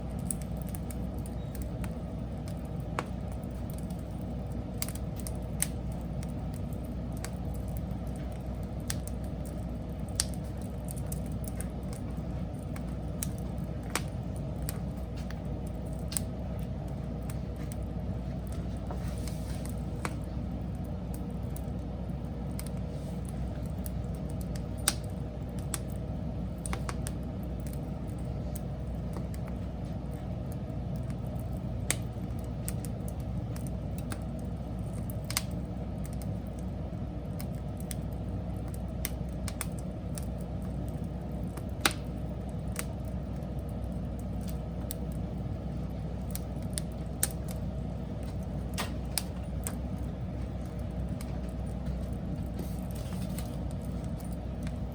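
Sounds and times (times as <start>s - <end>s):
fire pops and crackles: 0.0s - 54.9s
wood fire burning: 0.0s - 54.9s.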